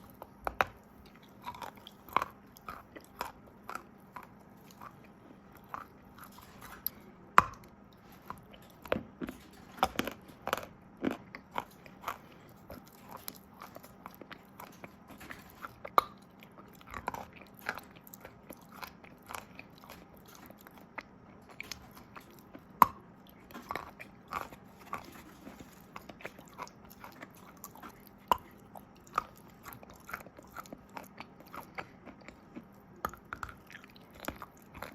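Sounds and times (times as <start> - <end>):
chewing crunchy chalk: 0.0 - 34.9.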